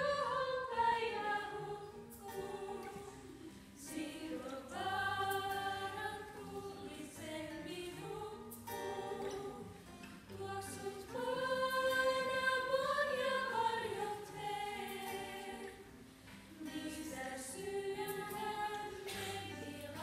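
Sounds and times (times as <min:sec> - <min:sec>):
group singing together: 0:00.0 - 0:20.0.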